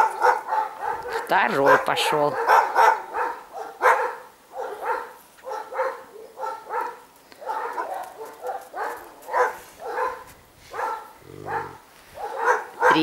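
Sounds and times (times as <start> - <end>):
dog barking and yelping: 0.0 - 13.0.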